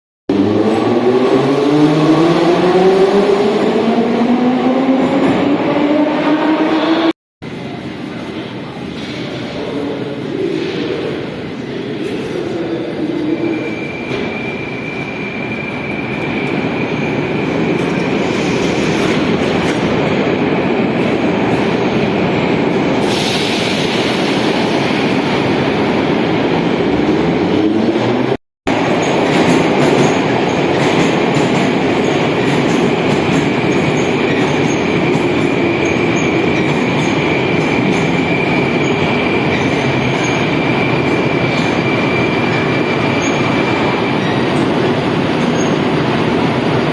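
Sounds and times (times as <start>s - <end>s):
train wheels rumbling on rails: 0.3s - 46.9s.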